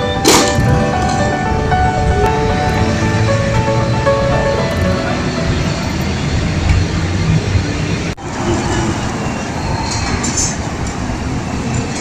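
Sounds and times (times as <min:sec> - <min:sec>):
passing vehicles rumble: 0:00.0 - 0:12.0.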